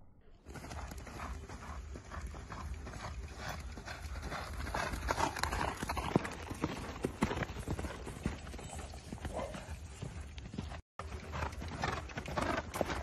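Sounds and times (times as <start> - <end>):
horse hooves cantering on sand: 0.5 - 13.0.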